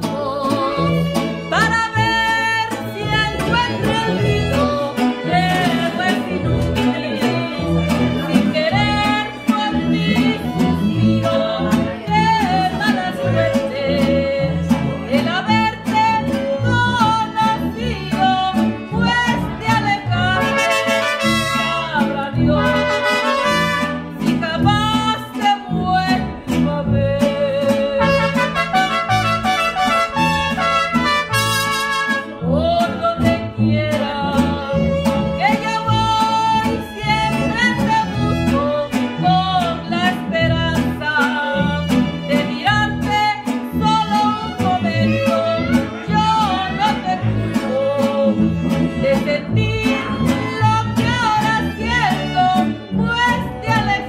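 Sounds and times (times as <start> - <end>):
man singing: 0.0 - 54.0
mariachi band playing: 0.0 - 54.0.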